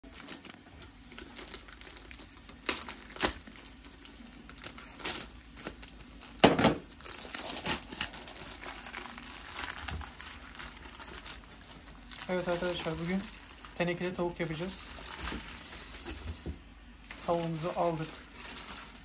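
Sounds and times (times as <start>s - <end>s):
plastic bag crinkling and tearing: 0.0s - 16.3s, 17.0s - 19.0s.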